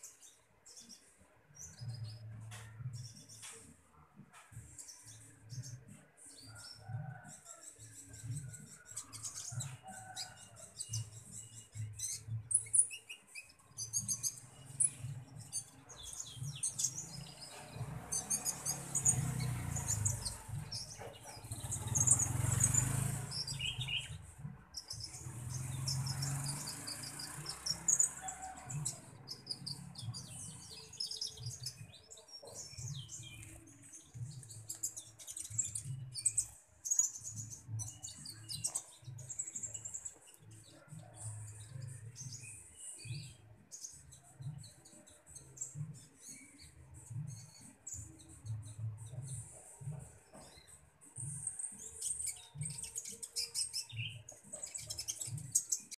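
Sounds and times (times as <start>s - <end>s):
songbird chirping: 0.0s - 55.9s.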